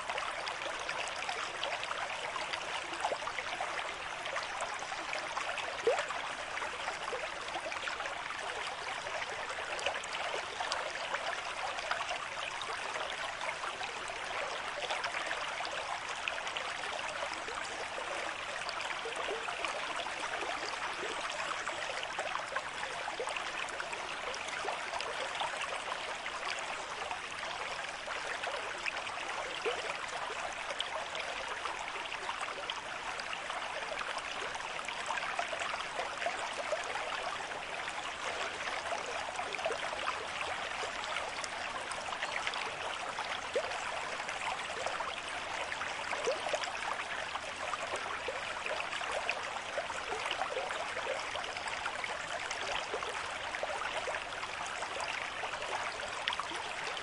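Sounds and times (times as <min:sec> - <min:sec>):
stream of water flowing: 0:00.0 - 0:57.0.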